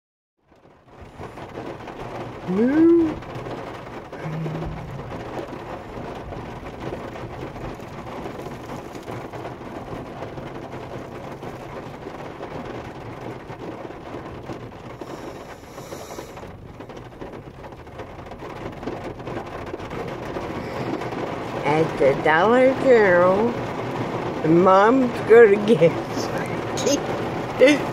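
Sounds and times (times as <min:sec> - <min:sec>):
heavy rain on car roof: 0:00.4 - 0:27.9.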